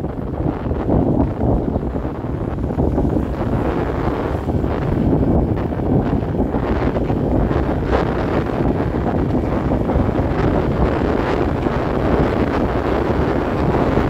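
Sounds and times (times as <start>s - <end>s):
road noise: 0.0s - 14.0s
wind on microphone: 0.0s - 14.0s.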